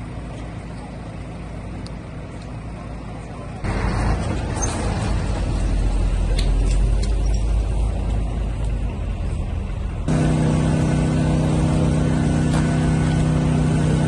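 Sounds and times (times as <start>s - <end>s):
traffic rumble: 0.0s - 14.0s
vehicle engine hum: 0.0s - 14.0s.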